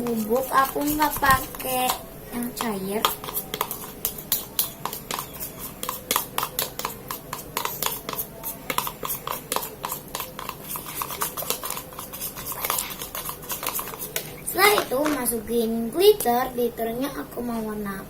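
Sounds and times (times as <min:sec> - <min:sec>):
stirrer scraping a container: 0:00.0 - 0:15.4.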